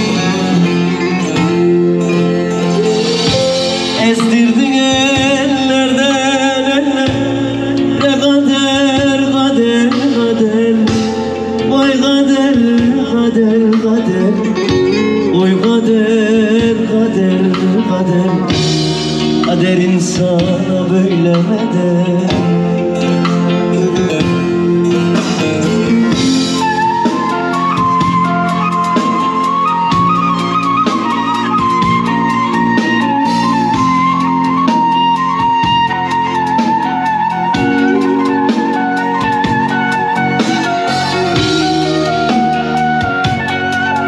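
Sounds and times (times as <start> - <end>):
flute-like melody: 0.0 - 44.0
folk music ornamented melody: 0.0 - 44.0.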